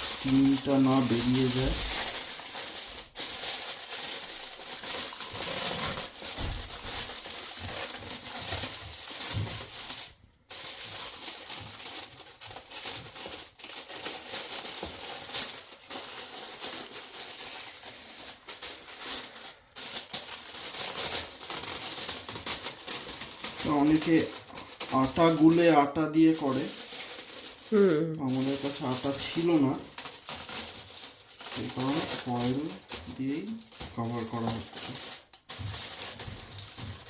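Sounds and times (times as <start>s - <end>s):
aluminium foil crinkling: 0.0s - 37.0s.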